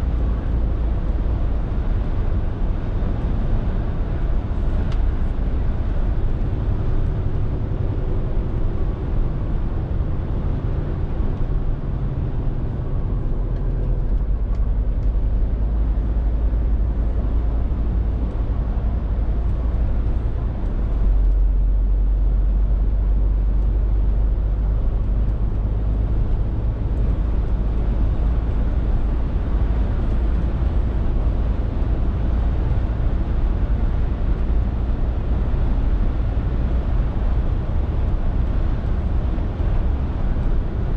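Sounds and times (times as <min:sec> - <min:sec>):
diesel lorry engine rumbling: 0:00.0 - 0:40.9
road noise: 0:00.0 - 0:40.9.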